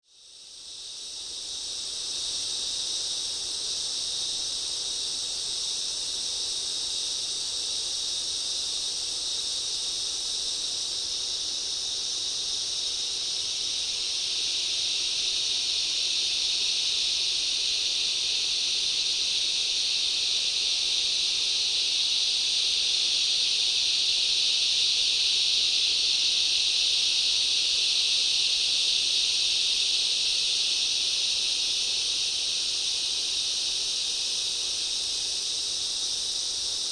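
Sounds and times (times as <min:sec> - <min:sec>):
insects chirping in a forest: 0:00.0 - 0:36.9.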